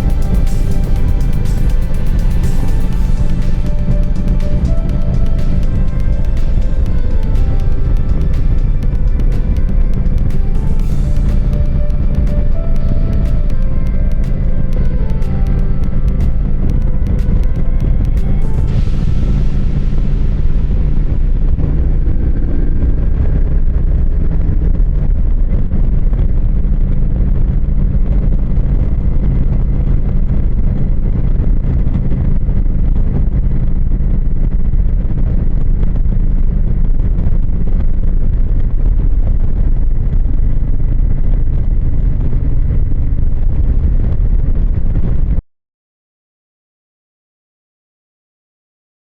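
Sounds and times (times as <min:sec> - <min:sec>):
wind rushing over microphone: 0:00.0 - 0:45.4.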